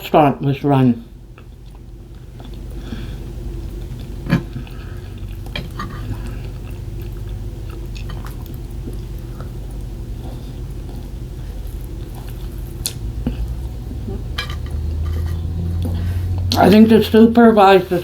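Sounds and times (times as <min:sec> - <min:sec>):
low hum: 0:00.9 - 0:18.0
person chewing food: 0:01.3 - 0:16.7.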